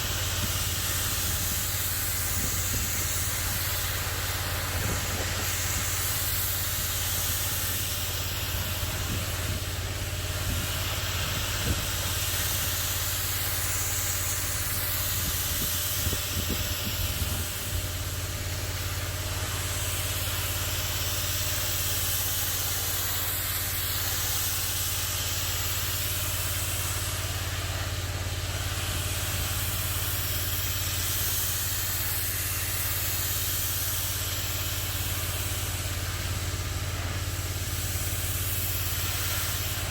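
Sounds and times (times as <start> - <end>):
pressure washer engine hum: 0.0 - 39.9
water jet hissing: 0.0 - 39.9.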